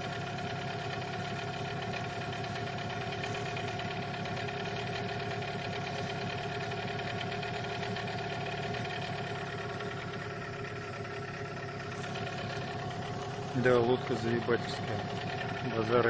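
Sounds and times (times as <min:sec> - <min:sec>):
outboard boat motor running: 0:00.0 - 0:16.0.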